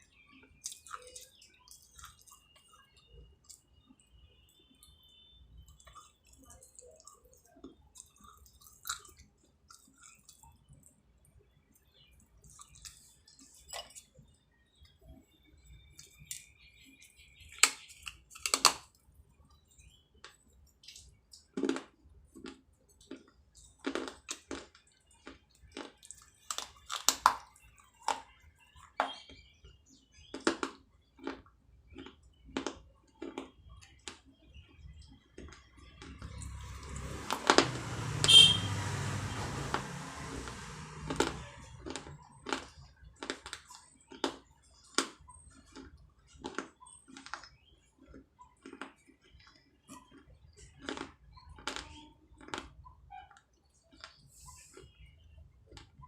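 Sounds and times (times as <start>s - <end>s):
teeth crunching clay pottery: 0.0s - 56.0s.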